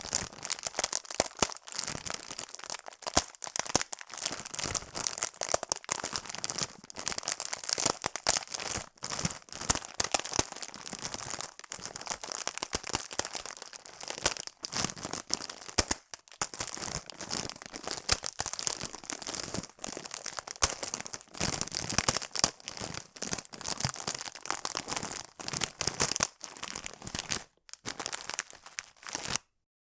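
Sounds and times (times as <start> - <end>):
plastic bag crinkling: 0.0 - 29.5.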